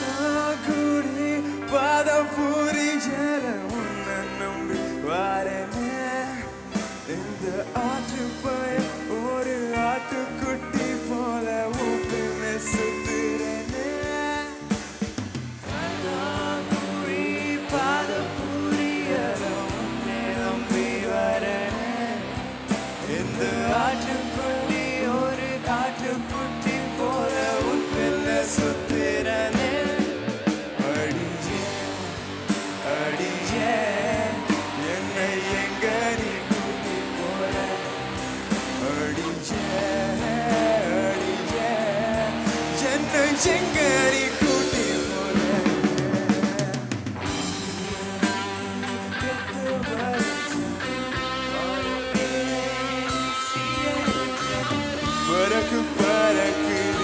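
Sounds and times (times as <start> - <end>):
man singing into microphone: 0.0 - 15.0, 15.6 - 57.0
live band with drums and guitar: 0.0 - 57.0.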